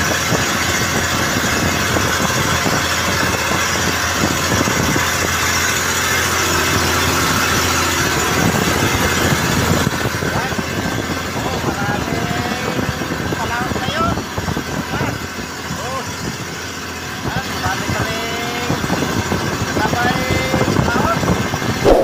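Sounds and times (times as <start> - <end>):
small boat engine running: 0.0 - 22.0.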